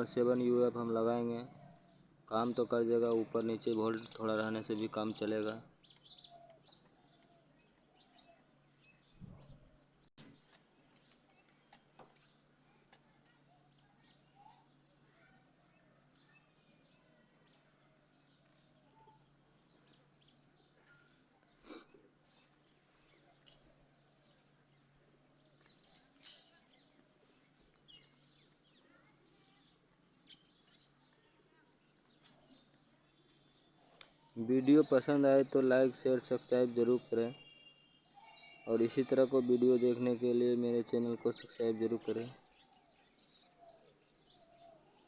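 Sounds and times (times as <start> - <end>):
distant bird chirps: 1.0 - 45.0.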